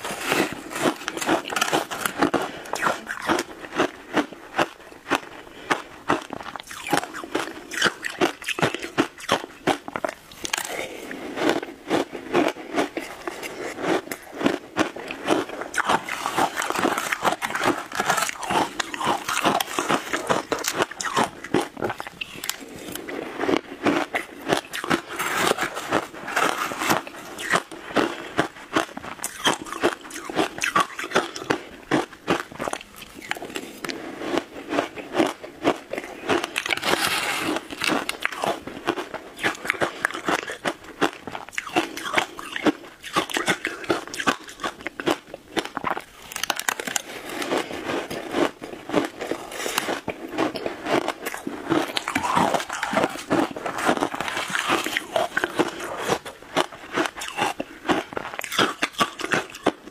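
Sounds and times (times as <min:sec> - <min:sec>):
person crunching shaved ice: 0:00.0 - 0:59.9.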